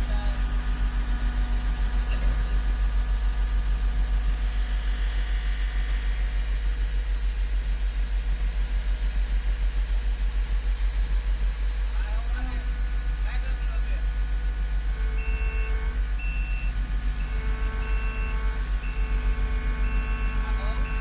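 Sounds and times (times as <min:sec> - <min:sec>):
heavy machine engine idling: 0:00.0 - 0:21.0.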